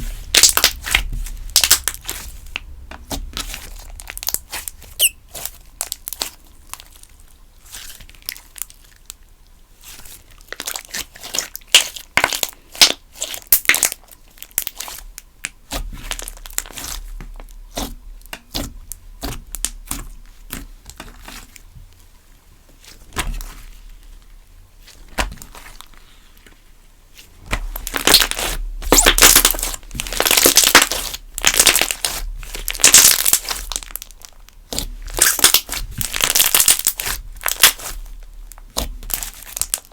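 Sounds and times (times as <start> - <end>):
slime being squished: 0.0 - 9.2, 9.8 - 21.6, 27.2 - 39.9.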